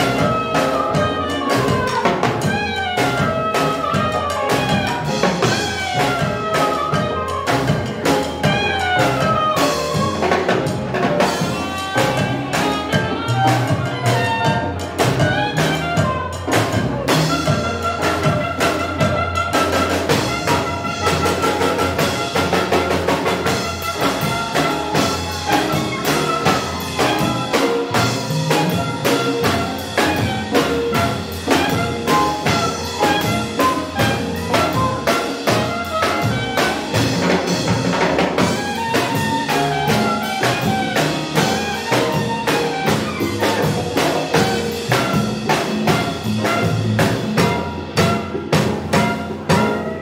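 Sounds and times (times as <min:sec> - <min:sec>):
drum kit: 0:00.0 - 0:50.0
percussion: 0:00.0 - 0:50.0
saxophone melody: 0:00.0 - 0:50.0
upright bass: 0:00.0 - 0:50.0.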